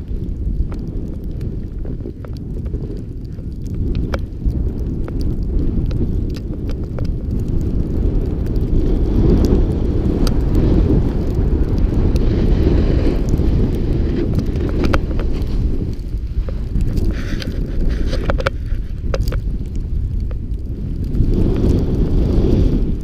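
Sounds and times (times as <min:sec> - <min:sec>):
snowboard scraping over snow: 0:00.0 - 0:23.0
wind buffeting microphone: 0:00.0 - 0:23.0.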